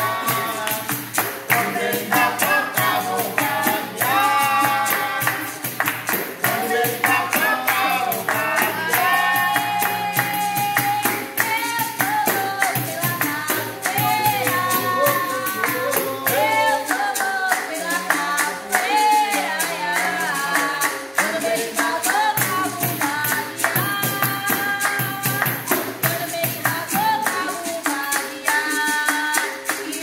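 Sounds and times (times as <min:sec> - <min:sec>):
voices singing: 0:00.0 - 0:25.4
hand claps: 0:00.0 - 0:30.0
tambourine: 0:00.0 - 0:30.0.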